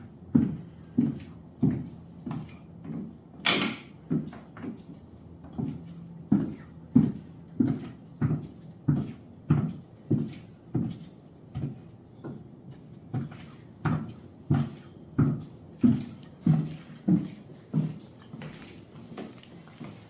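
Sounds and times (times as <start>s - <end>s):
high-heeled footsteps: 0.0s - 20.0s.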